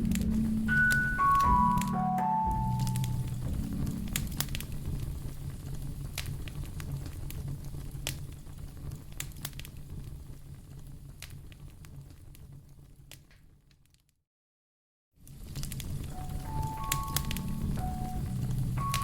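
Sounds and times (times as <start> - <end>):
fire crackling and popping: 0.0 - 1.8, 2.6 - 14.0, 15.2 - 19.0.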